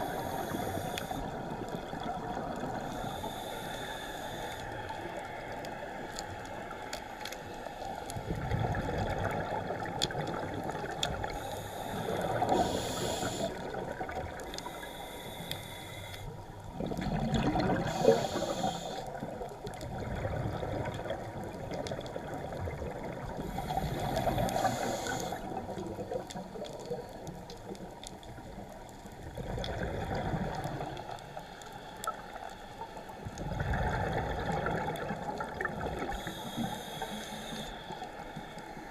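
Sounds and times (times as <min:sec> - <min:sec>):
regulator bubbles burbling underwater: 0:00.0 - 0:03.6, 0:07.9 - 0:15.4, 0:16.3 - 0:31.4, 0:32.0 - 0:38.9.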